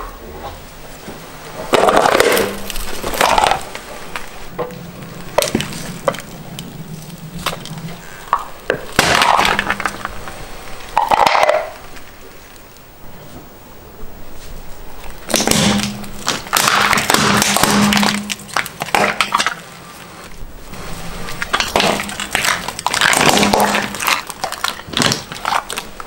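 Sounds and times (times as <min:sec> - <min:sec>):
tyre crushing plastic objects: 0:01.5 - 0:12.6, 0:15.1 - 0:26.0.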